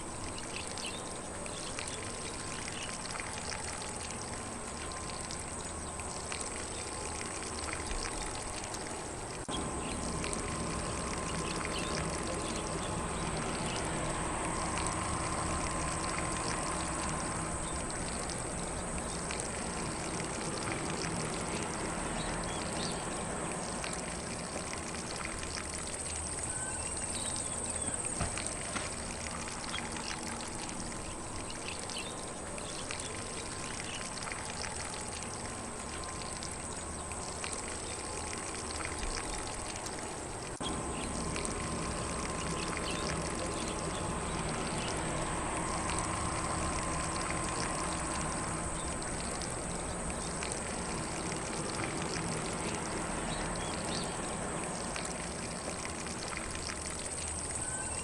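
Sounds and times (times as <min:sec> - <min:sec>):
sprinkler spraying water on grass: 0:00.0 - 0:58.0.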